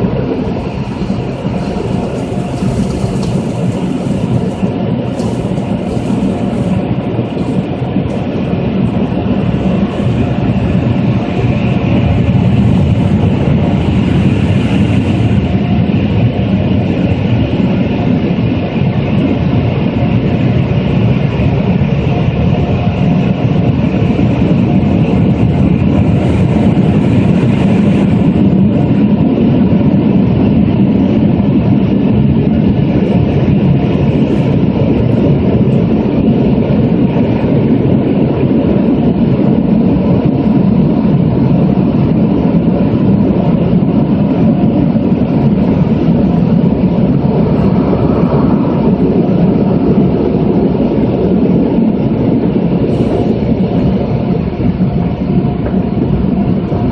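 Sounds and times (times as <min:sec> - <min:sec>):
car wash machinery churning: 0:00.0 - 0:19.4, 0:20.0 - 0:56.9.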